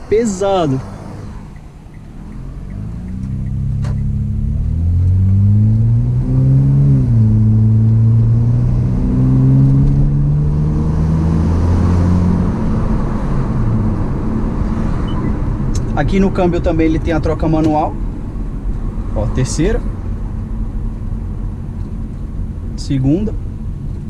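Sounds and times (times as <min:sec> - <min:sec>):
car engine accelerating hard: 0:00.0 - 0:21.6.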